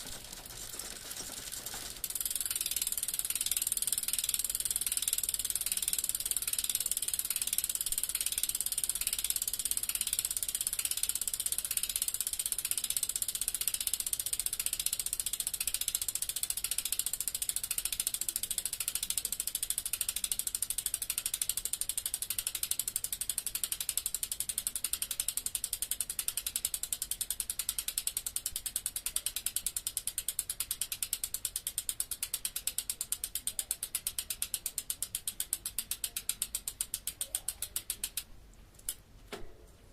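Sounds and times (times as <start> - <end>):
bicycle freewheel ticking: 0.0 - 39.0.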